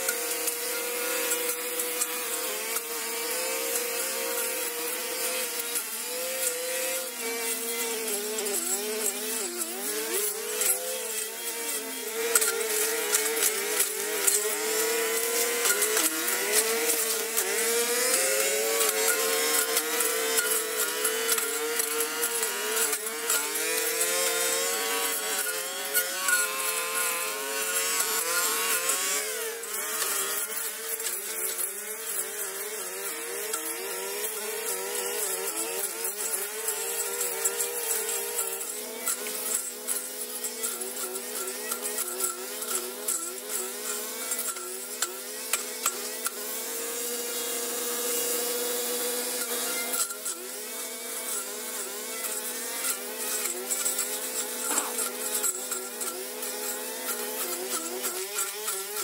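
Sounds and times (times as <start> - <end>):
power tool engine cutting: 0.0 - 59.0.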